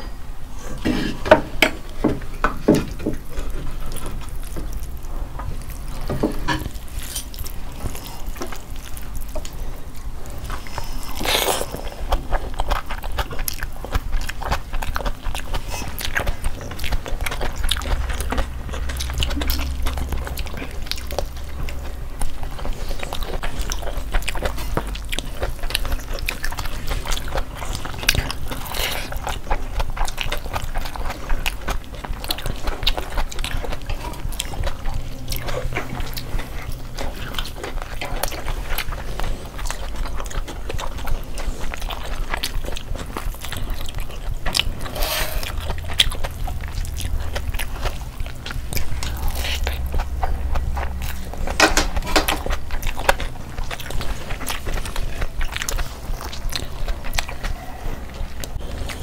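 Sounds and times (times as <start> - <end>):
people chewing and lip-smacking: 0.0 - 59.0.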